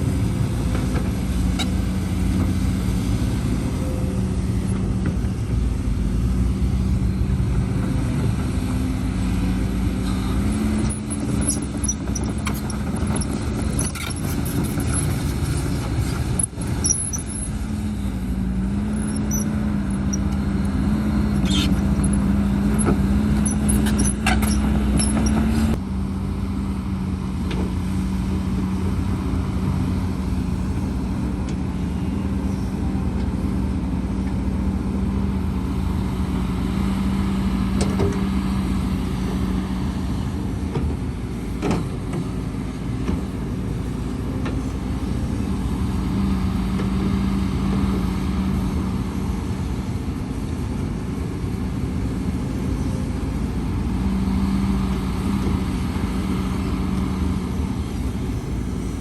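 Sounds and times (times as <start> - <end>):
diesel construction machinery drone: 0.0 - 59.0.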